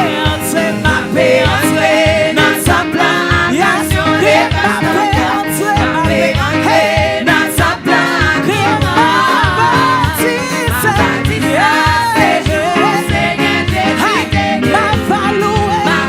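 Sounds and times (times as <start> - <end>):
band playing: 0.0 - 16.0
people singing gospel: 0.0 - 16.0.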